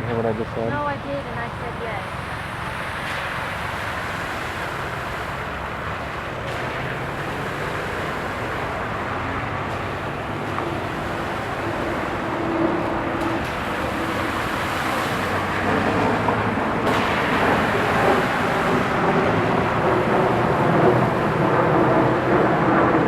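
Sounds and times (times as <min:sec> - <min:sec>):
vehicle engine passing: 0:00.0 - 0:23.0
tyres hissing on wet road: 0:00.1 - 0:23.0.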